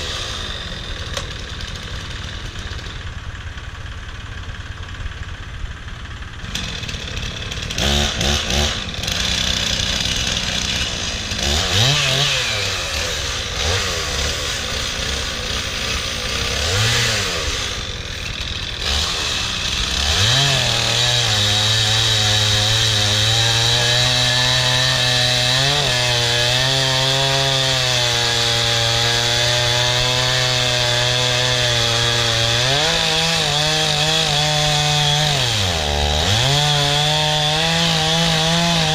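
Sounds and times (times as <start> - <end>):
chainsaw cutting log: 0.0 - 5.1, 6.0 - 38.9.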